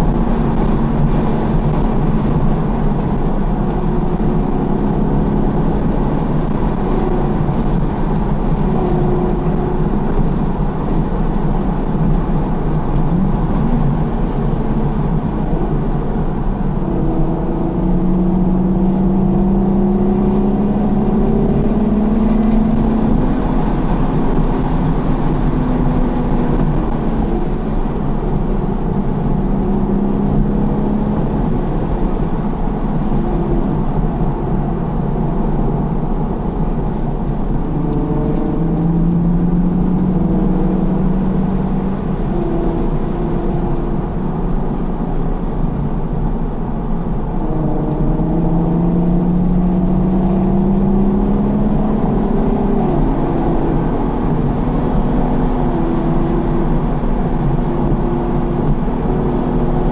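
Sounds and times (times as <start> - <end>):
car engine accelerating: 0.0 - 59.9
wind and road noise: 0.0 - 59.9.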